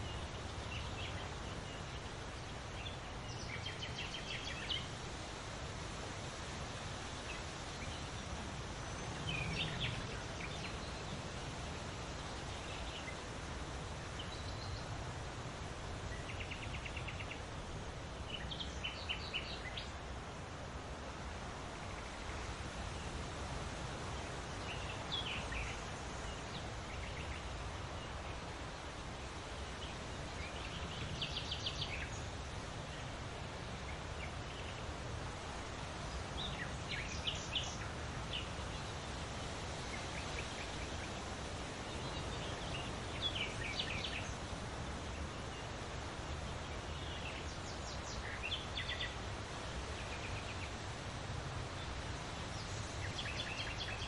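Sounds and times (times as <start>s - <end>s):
rustling hiss: 0.0s - 54.0s.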